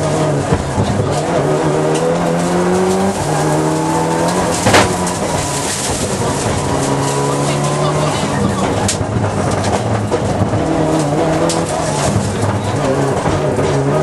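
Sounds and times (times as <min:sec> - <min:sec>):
rally car engine accelerating: 0:00.0 - 0:14.0
sharp exhaust crack: 0:00.0 - 0:14.0.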